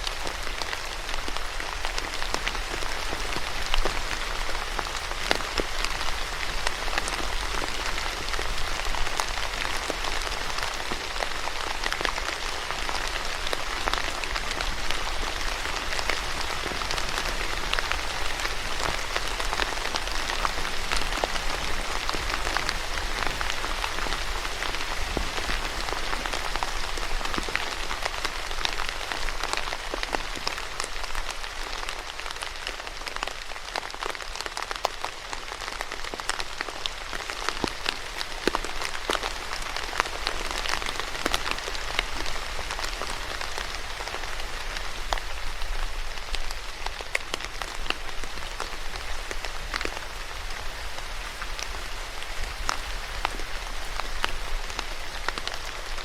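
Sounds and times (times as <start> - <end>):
steady rain on a surface: 0.0 - 56.0.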